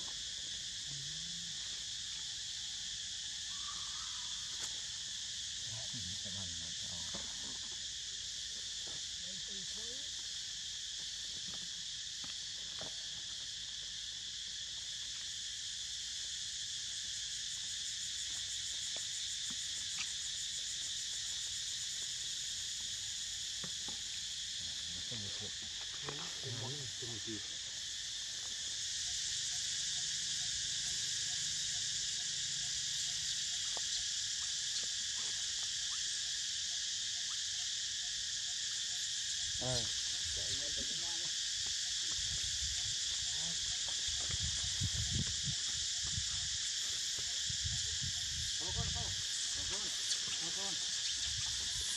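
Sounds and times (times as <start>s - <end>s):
insects buzzing shrill chorus: 0.0s - 51.9s.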